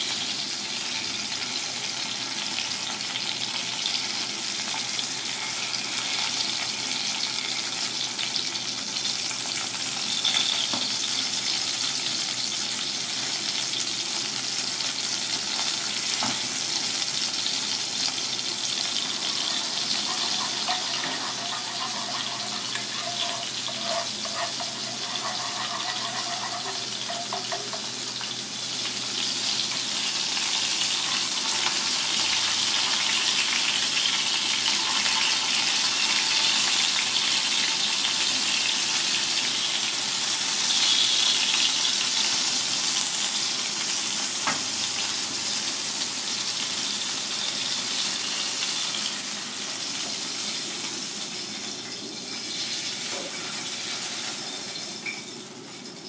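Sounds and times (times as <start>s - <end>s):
fish frying in hot oil: 0.0s - 56.0s.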